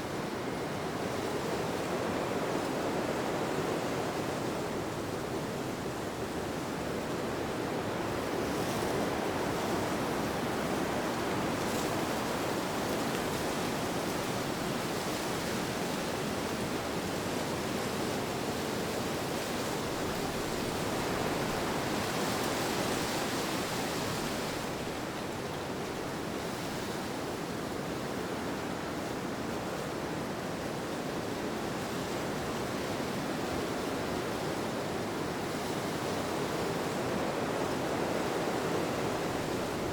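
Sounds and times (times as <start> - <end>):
steady rushing wind: 0.0 - 39.9.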